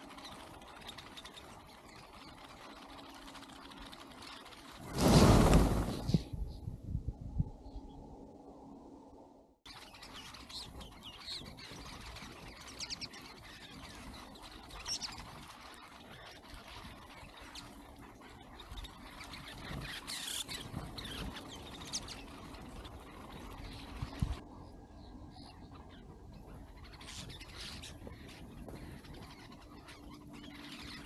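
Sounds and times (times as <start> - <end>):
flock of birds chirping: 0.0 - 6.7, 9.7 - 31.0.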